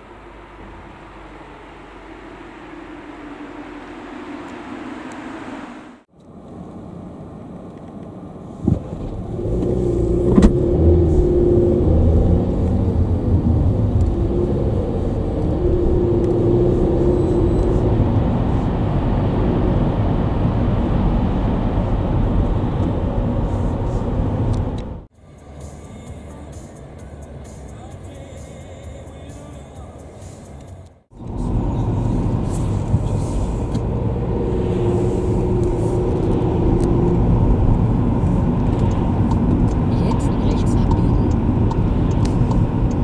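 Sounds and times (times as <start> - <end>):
car engine and road rumble: 0.0 - 43.0.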